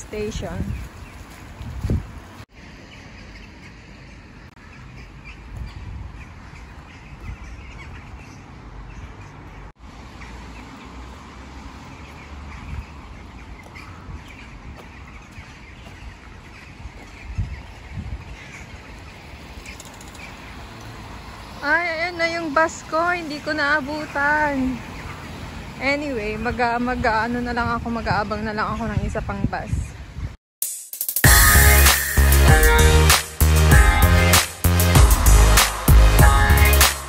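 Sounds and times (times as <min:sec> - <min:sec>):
road traffic rumble: 0:00.0 - 0:29.3, 0:31.3 - 0:37.0.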